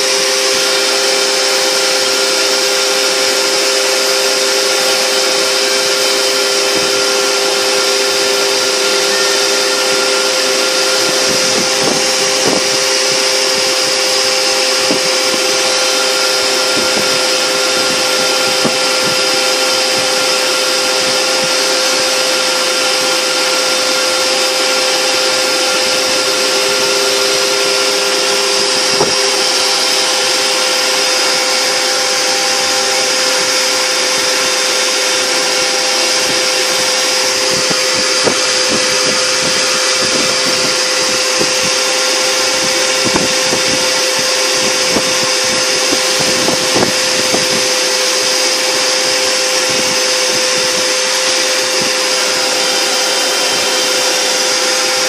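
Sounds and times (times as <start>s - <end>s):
cnc router spindle whining: 0.0s - 55.0s
vacuum hose suction: 0.0s - 55.0s.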